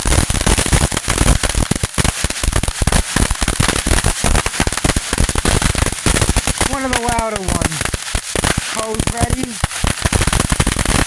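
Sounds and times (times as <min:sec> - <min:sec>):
firework cracks and pops: 0:00.0 - 0:11.0.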